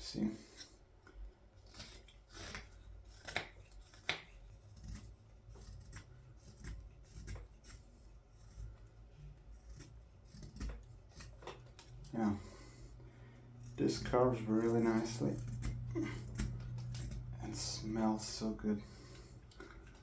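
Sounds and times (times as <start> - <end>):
knife slicing wood: 1.6 - 13.0, 13.6 - 20.0.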